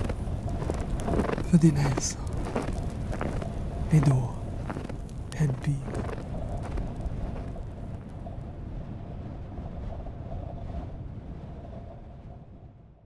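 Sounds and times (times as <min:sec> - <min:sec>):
light crackles: 0:00.0 - 0:10.8
low rumbling ambience: 0:00.0 - 0:13.0.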